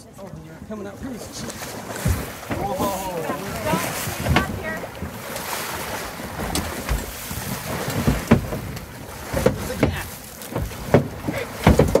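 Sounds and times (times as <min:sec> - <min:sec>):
fish splashing against hull: 0:00.6 - 0:12.0.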